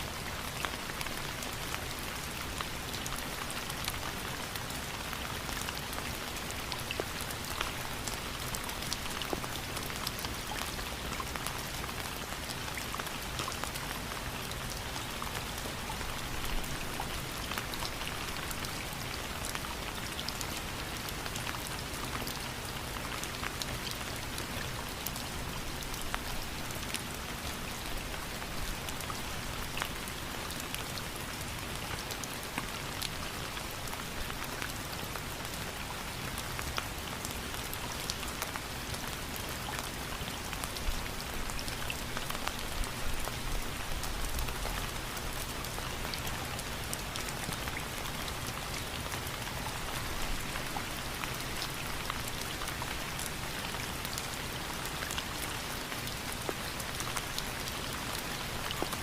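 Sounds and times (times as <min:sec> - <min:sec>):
rain drops ticking on hard surface: 0:00.0 - 0:59.0
rain hiss: 0:00.0 - 0:59.0.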